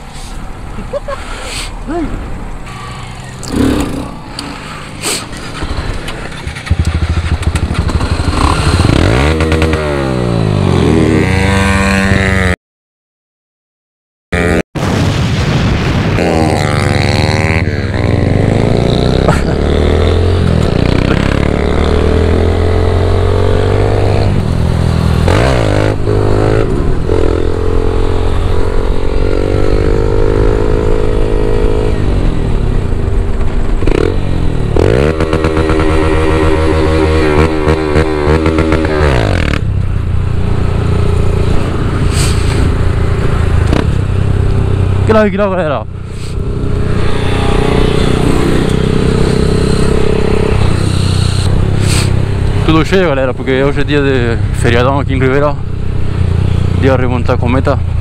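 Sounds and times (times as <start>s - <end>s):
wind and road rumble: 0.0s - 12.6s, 14.4s - 58.0s
motorcycle engine revving: 2.7s - 12.6s, 16.2s - 58.0s.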